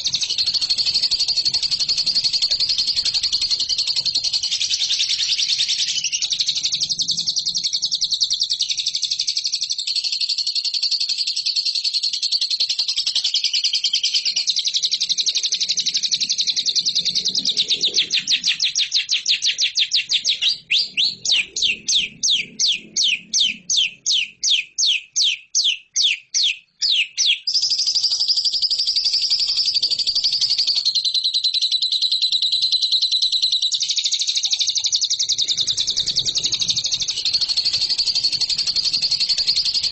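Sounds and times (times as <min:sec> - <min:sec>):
lovebird chattering trill: 0:00.0 - 0:09.6, 0:11.0 - 0:39.9
lovebird sharp chirps: 0:00.0 - 0:39.9.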